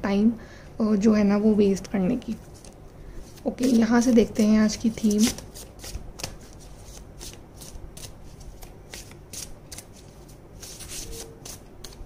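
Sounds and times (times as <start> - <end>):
cards being shuffled by hand: 2.2 - 12.0.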